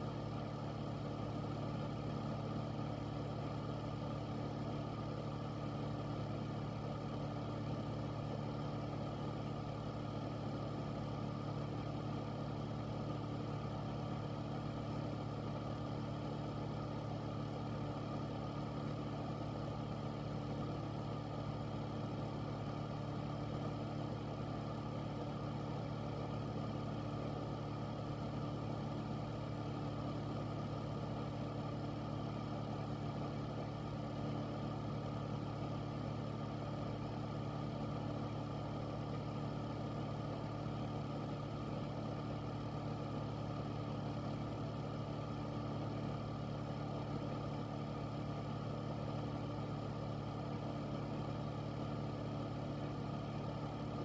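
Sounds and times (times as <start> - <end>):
air filter fan running: 0.0 - 54.0.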